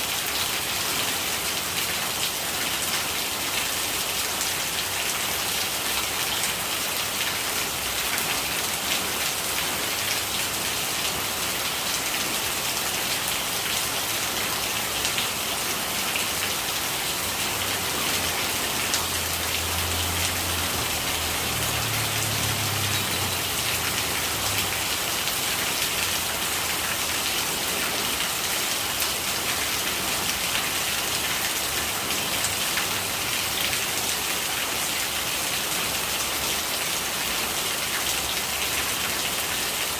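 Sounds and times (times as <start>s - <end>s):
rain pattering: 0.0s - 39.9s
gurgling rainwater: 0.6s - 39.9s.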